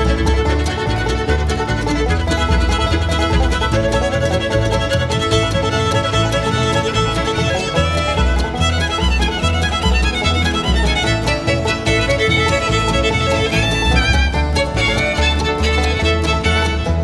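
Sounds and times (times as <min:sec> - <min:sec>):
fiddle-led bluegrass music: 0:00.0 - 0:17.0
guitar backing: 0:00.0 - 0:17.0.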